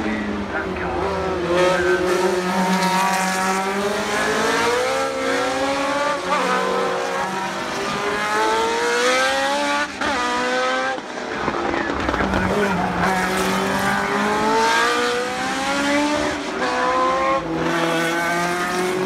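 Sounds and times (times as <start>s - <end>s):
race car engines accelerating past: 0.2s - 19.0s.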